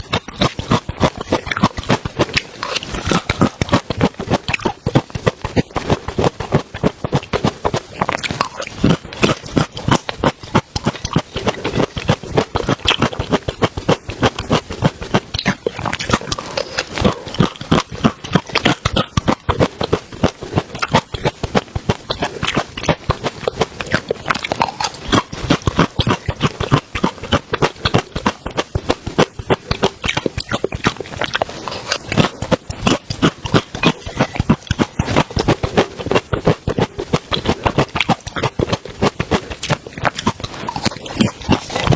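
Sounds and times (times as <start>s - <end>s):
lip smacking: 0.0s - 41.9s
wet chewing: 0.0s - 41.9s.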